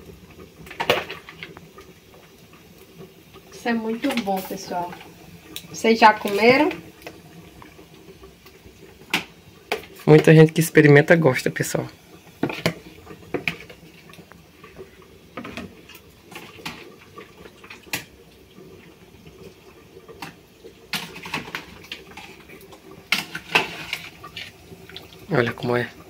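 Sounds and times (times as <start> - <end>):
water boiling: 0.0 - 26.0.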